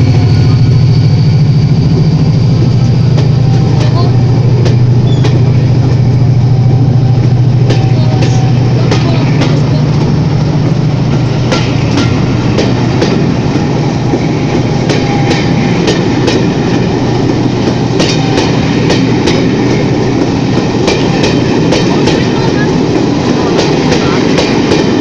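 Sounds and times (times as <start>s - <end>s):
train coaches rumbling past: 0.0s - 25.0s.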